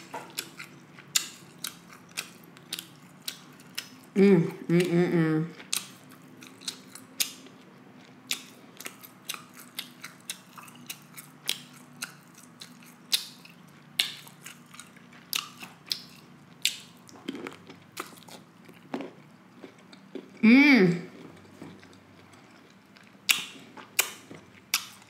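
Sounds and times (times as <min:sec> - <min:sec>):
wet chewing with clicks and smacks: 0:00.0 - 0:04.1, 0:05.6 - 0:20.3, 0:21.2 - 0:25.0.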